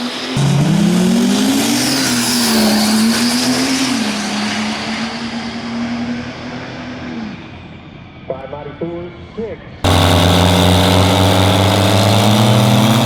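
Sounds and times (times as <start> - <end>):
diesel truck engine at full throttle: 0.0 - 7.6, 9.8 - 13.0.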